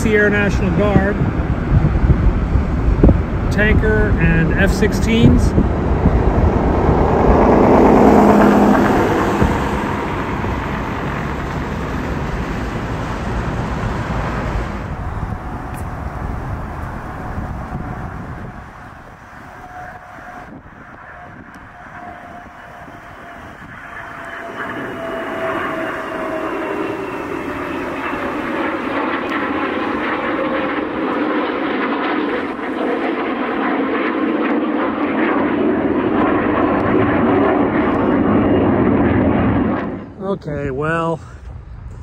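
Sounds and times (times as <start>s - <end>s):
engine whine falling in pitch: 0.0s - 42.0s
jet aircraft flying over: 0.0s - 42.0s.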